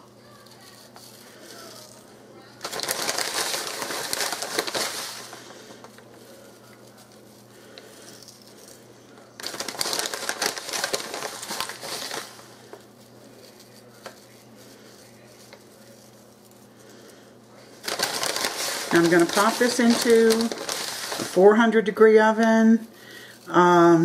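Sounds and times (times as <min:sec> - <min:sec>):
breadcrumbs rustling and crinkling: 0:00.0 - 0:24.0.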